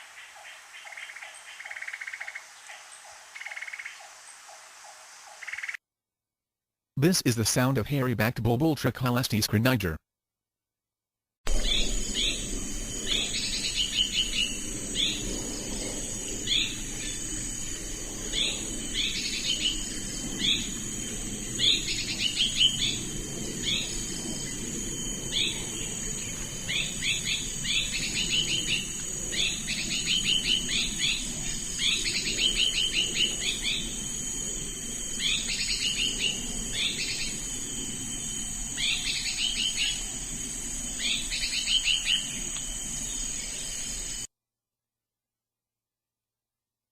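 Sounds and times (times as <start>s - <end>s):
high insect drone: 0.0s - 5.8s, 11.5s - 44.3s.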